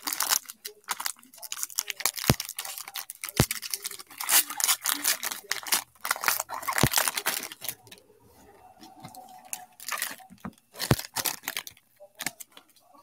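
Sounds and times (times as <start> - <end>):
foil wrapper crinkling and tearing: 0.0 - 8.0, 9.4 - 12.6.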